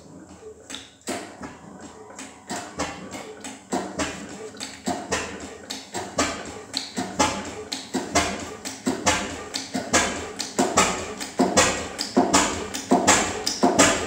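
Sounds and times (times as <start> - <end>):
oil engine knocking: 1.1 - 14.0.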